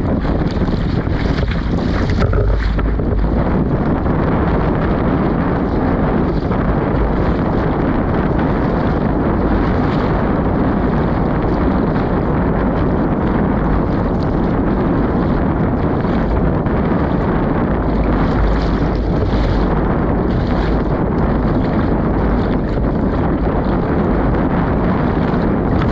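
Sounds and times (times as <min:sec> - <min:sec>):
strong wind on microphone: 0:00.0 - 0:25.9.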